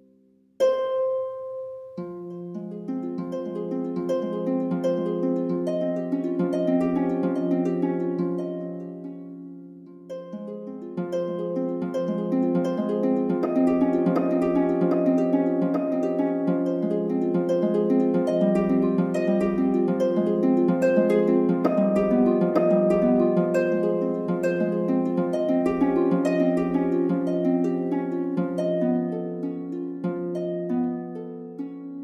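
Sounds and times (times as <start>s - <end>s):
harp playing: 0.6s - 32.0s.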